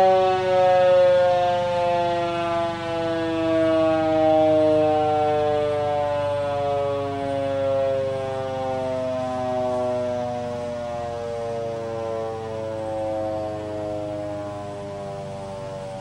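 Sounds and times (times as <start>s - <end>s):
motor siren sliding down: 0.0s - 16.0s.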